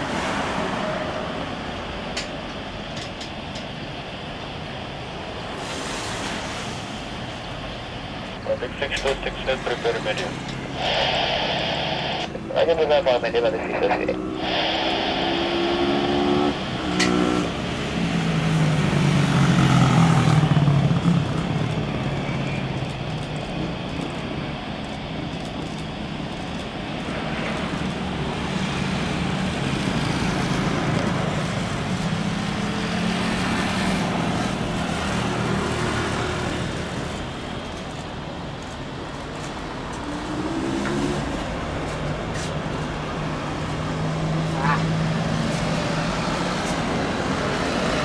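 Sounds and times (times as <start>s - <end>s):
jet engine roar: 0.0s - 48.0s.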